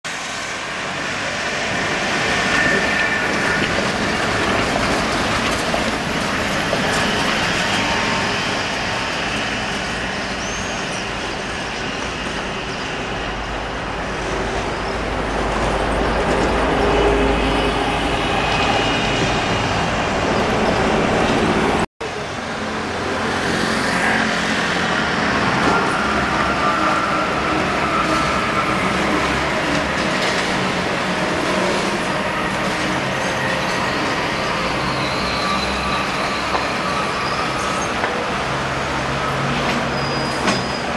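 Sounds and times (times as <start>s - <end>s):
traffic noise: 0.0s - 40.9s
tram running: 0.1s - 40.9s.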